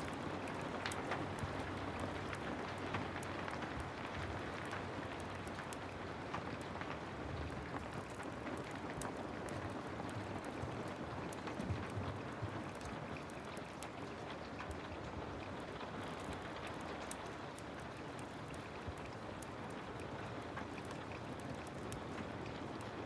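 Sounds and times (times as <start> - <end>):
heavy rain falling: 0.0 - 23.0
wood fire crackling and popping: 0.0 - 23.0.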